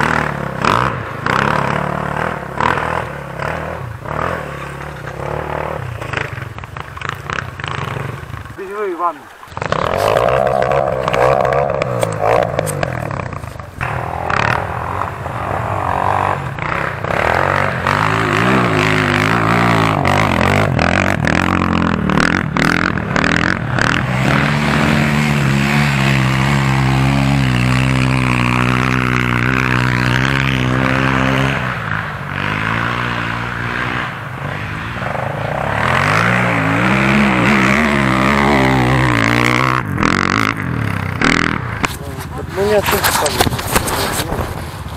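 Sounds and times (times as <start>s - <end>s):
bikes knocking and rattling: 0.0s - 44.9s
dirt bike engines revving: 0.0s - 44.9s.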